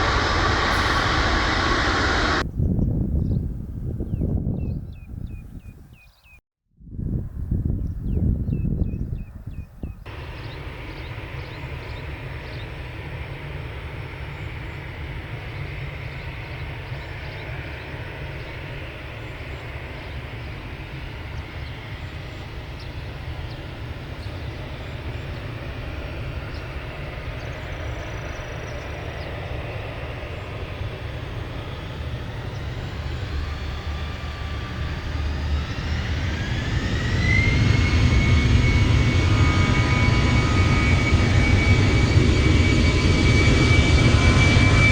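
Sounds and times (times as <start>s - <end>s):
jet engines rumbling: 0.0s - 2.5s, 10.1s - 44.9s
rising engine whine: 0.0s - 2.5s, 10.1s - 44.9s.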